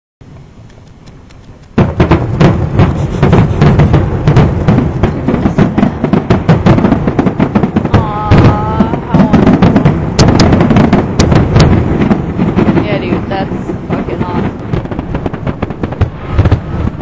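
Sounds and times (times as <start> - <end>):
fireworks booming and crackling: 0.7 - 17.0.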